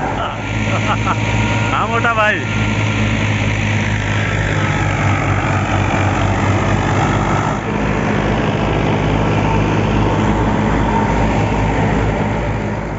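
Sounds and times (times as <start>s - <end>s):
thresher drum rushing noise: 0.0s - 11.4s
diesel engine drone: 0.0s - 12.9s.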